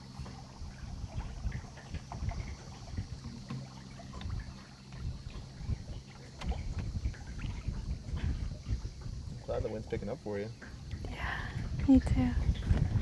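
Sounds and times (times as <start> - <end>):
water washing along hull: 0.0 - 13.0
wind gusting across microphone: 0.6 - 3.5, 4.1 - 13.0.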